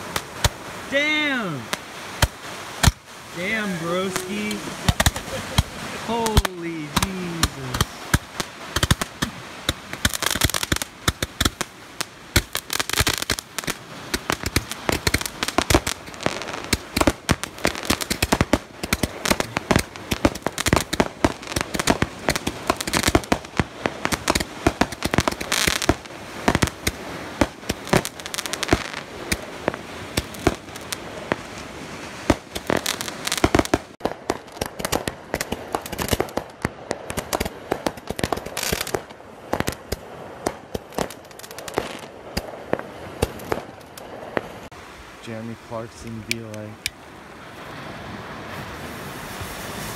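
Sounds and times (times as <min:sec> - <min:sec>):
fireworks cracking and popping: 0:00.0 - 0:44.7.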